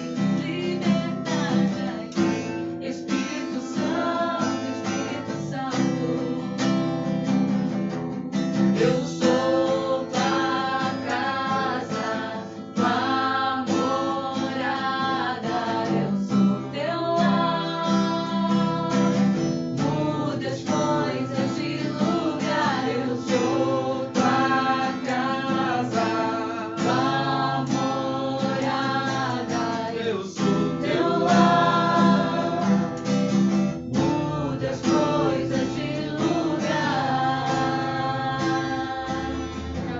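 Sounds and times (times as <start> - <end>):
person singing: 0.0 - 6.8, 8.8 - 33.1, 33.8 - 39.9
strummed acoustic guitar: 0.0 - 39.9.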